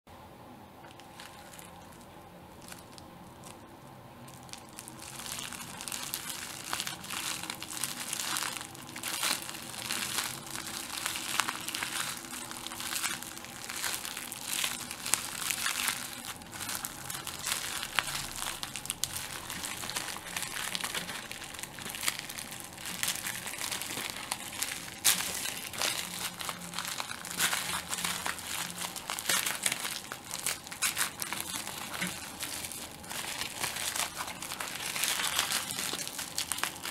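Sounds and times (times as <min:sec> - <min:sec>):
bubble wrap popping: 0:00.8 - 0:36.9
plastic crinkling: 0:00.8 - 0:36.9.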